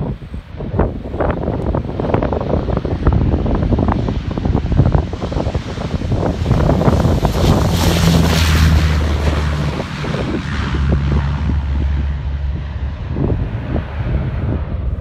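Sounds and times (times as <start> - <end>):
airplane engine drone: 0.0 - 15.0
wind buffeting microphone: 0.0 - 15.0.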